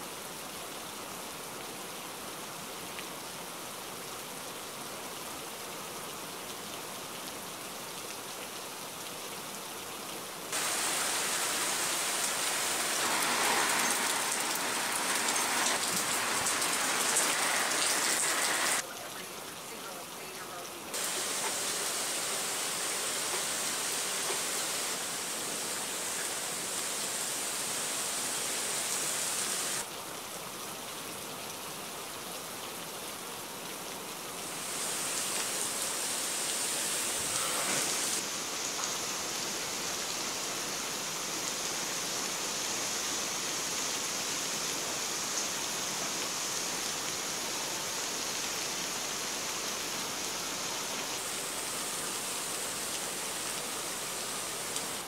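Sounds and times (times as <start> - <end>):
rain splashing into water: 0.1 - 55.0.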